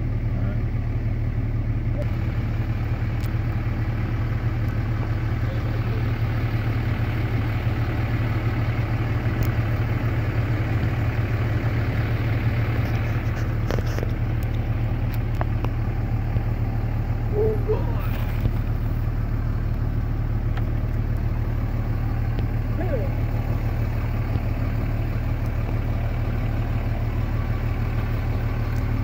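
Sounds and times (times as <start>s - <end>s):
car engine running at low revs: 0.0s - 29.0s.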